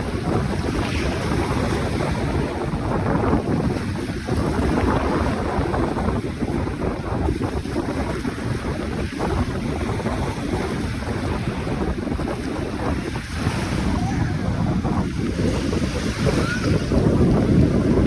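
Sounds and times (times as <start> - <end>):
sea waves washing in: 0.0 - 18.0
wind buffeting microphone: 0.0 - 18.0.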